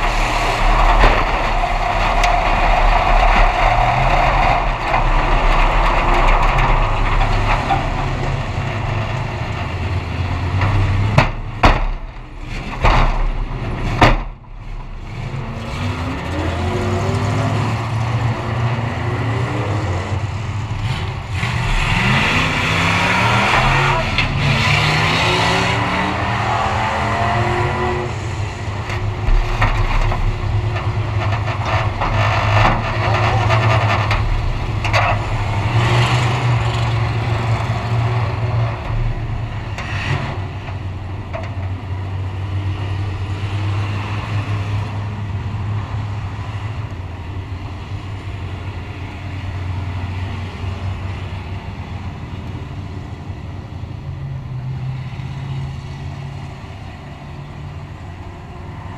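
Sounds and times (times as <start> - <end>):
track noise: 0.0 - 54.3.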